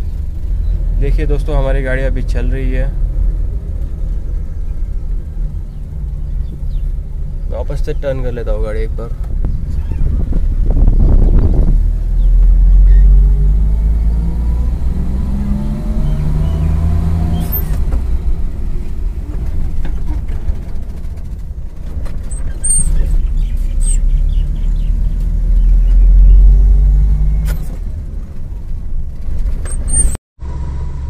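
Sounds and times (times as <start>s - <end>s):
van engine low rumble: 0.0s - 31.0s.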